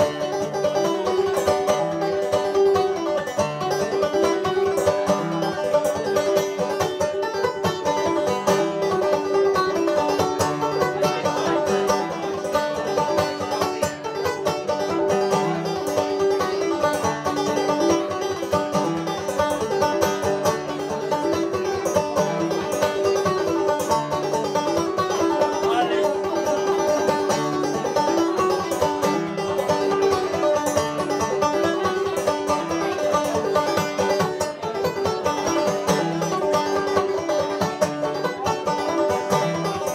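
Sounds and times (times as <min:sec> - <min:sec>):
solo banjo playing: 0:00.0 - 0:39.9.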